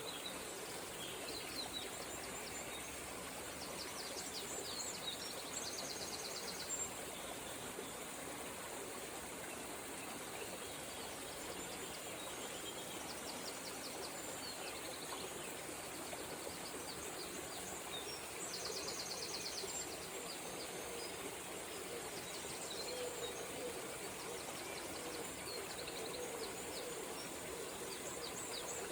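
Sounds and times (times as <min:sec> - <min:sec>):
river flowing: 0:00.0 - 0:28.9
songbirds singing: 0:00.0 - 0:28.9.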